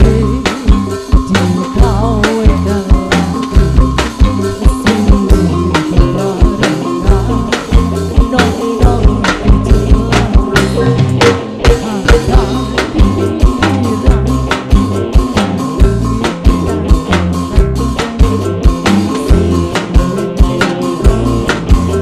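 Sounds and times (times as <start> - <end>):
electric bass: 0.0 - 22.0
fast drum beat: 0.0 - 22.0
guitar: 0.0 - 22.0.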